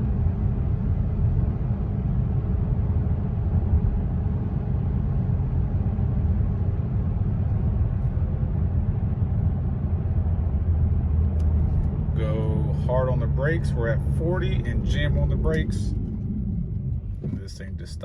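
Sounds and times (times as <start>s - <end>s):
car cabin engine and road noise: 0.0s - 18.0s.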